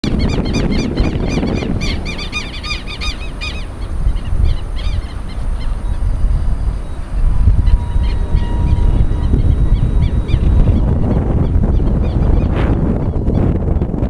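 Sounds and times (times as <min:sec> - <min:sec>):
birds calling high notes: 0:00.1 - 0:13.5.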